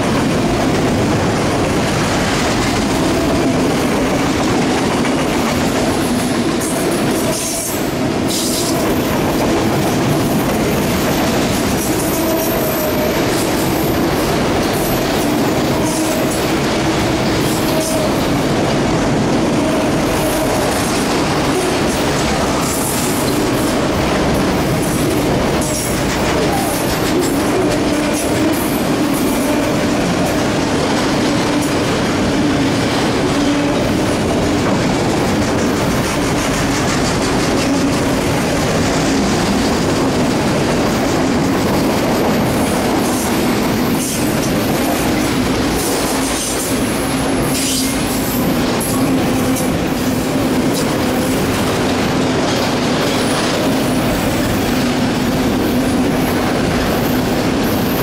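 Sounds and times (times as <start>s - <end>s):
steel wheels rattling on rail: 0.0s - 58.0s.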